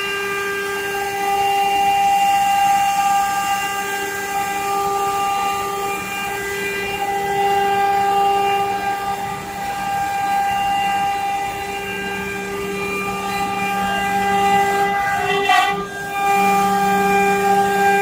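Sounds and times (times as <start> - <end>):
machine spindle whining: 0.0 - 18.0.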